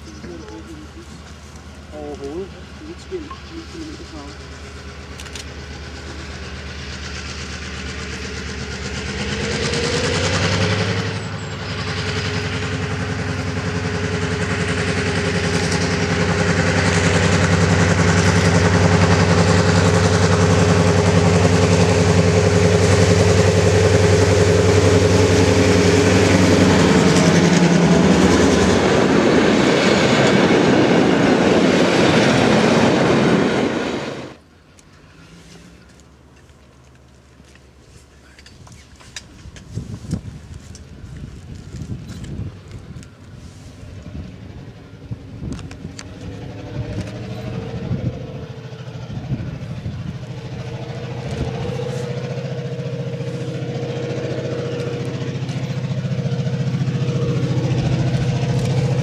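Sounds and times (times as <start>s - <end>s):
diesel locomotive engine drone: 0.0s - 59.0s
train wheels clattering on track: 0.0s - 59.0s.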